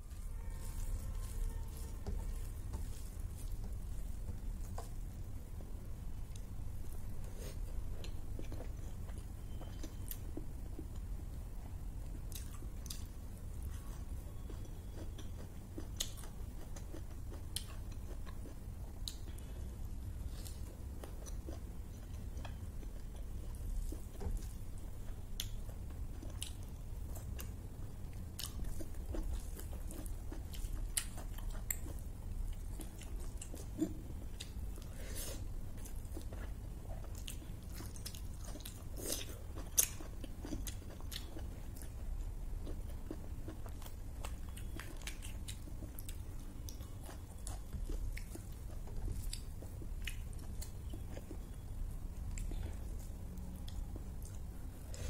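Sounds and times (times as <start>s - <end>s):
person chewing food: 0.1s - 55.0s.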